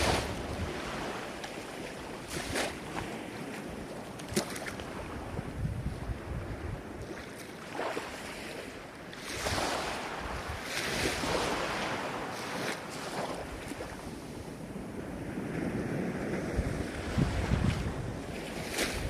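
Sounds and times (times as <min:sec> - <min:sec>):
ocean waves breaking: 0:00.0 - 0:19.0
wind on microphone: 0:00.0 - 0:19.0.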